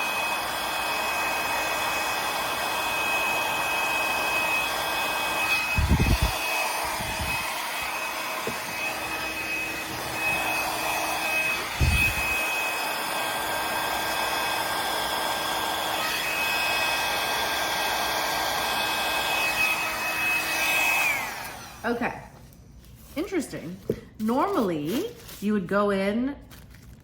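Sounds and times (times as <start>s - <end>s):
hair dryer whining: 0.0s - 22.4s.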